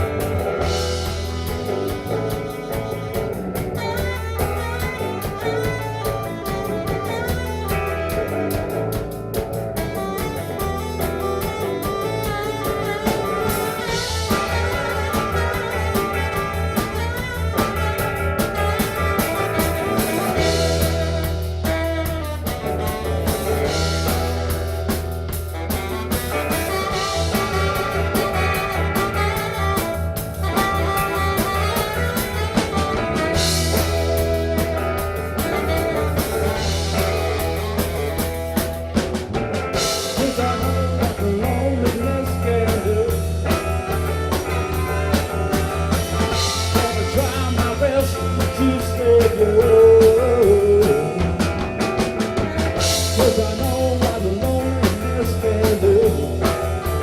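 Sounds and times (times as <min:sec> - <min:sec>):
live rock band playing: 0:00.0 - 0:57.0
repeated low bass notes: 0:00.0 - 0:57.0.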